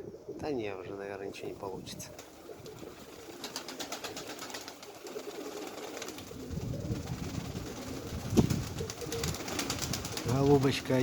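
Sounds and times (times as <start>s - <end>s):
pigeons cooing: 0.0s - 0.8s, 1.8s - 10.7s.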